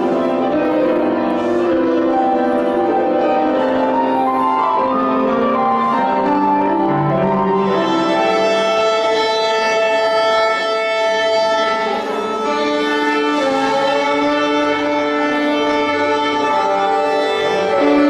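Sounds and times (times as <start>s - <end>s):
string orchestra playing: 0.0s - 18.0s.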